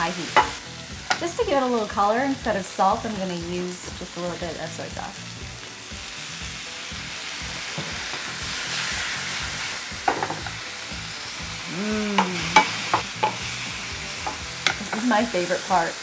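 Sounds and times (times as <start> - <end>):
vegetables sizzling in a frying pan: 0.0 - 16.0.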